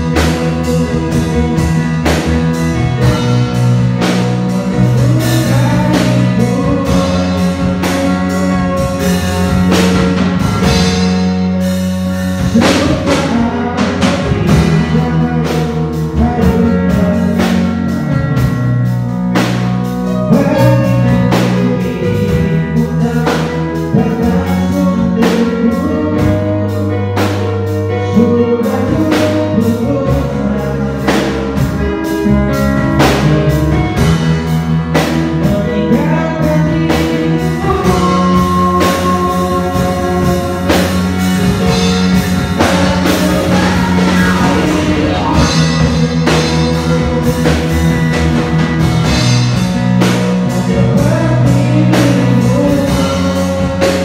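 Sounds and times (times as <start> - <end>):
drum kit beat: 0.0 - 54.0
electric bass guitar: 0.0 - 54.0
electronic keyboard: 0.0 - 54.0
man singing into microphone: 0.0 - 54.0.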